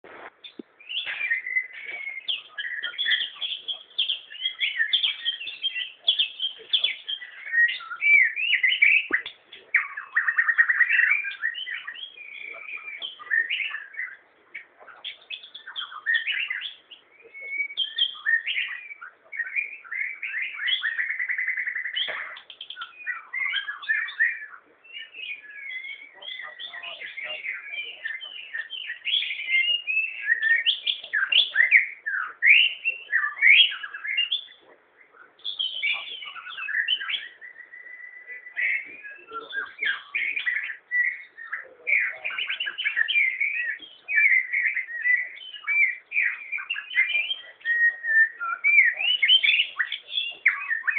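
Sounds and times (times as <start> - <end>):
bird singing whistled phrases: 0.4 - 50.9.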